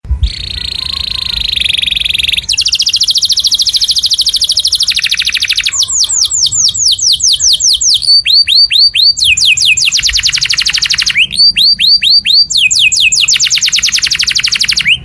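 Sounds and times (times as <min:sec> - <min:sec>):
songbird trilling: 0:00.3 - 0:15.0.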